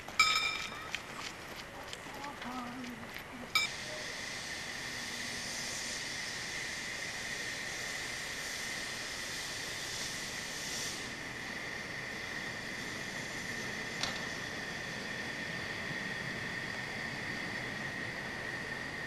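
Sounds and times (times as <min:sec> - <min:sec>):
high-pitched whine: 0:00.0 - 0:01.2, 0:03.5 - 0:19.0
steam locomotive hissing steam: 0:03.5 - 0:19.0.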